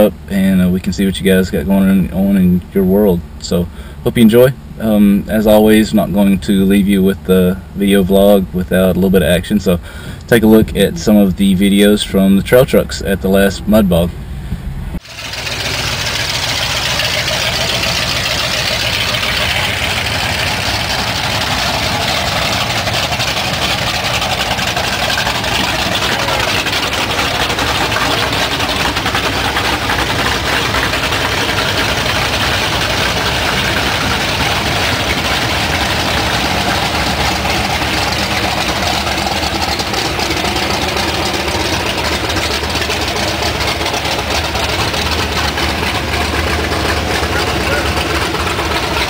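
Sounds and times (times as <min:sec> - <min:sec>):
truck engines running loudly: 0:00.0 - 0:49.0.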